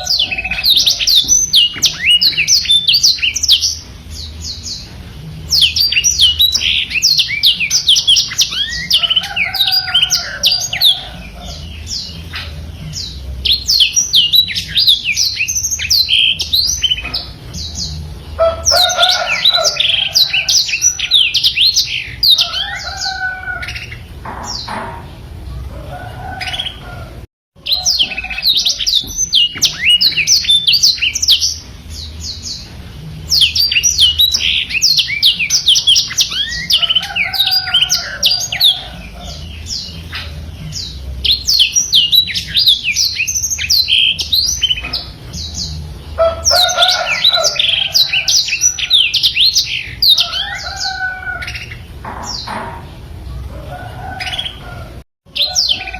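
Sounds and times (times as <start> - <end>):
bird singing trills: 0.0 - 55.9.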